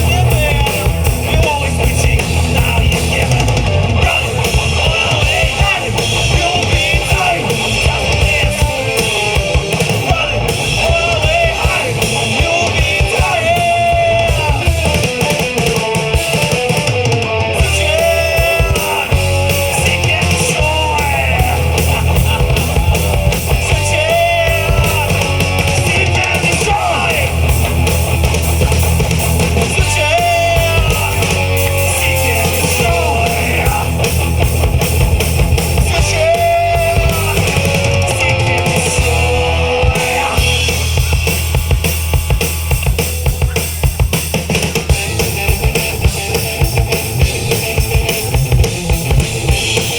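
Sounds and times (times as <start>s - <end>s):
live rock band playing: 0.0s - 49.9s.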